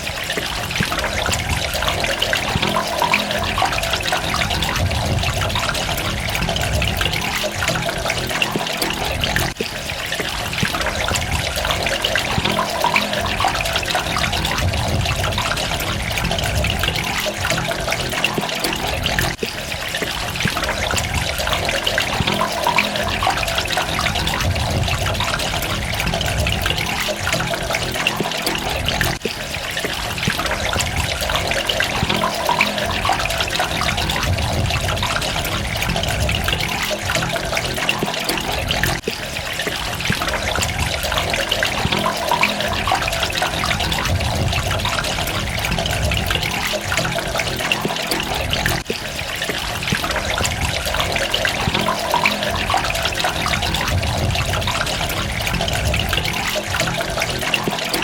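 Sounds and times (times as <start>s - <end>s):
running water splashing: 0.0s - 58.0s.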